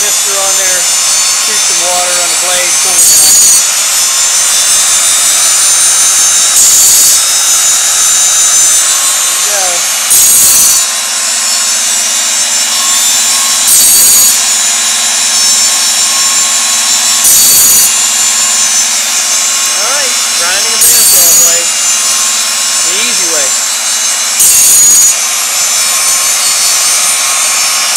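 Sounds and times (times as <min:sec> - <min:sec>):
grinding motor running: 0:00.0 - 0:27.9
harsh grinding bursts: 0:00.0 - 0:27.9.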